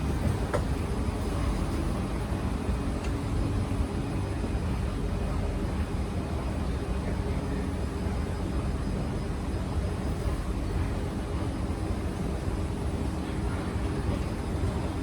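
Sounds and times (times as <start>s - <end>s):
train car rumble and hum: 0.0s - 15.0s.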